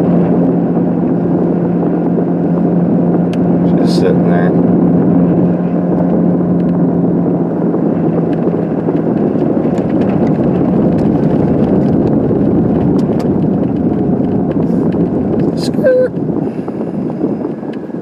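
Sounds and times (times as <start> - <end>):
car interior rumble: 0.0 - 18.0
low engine hum: 0.0 - 18.0.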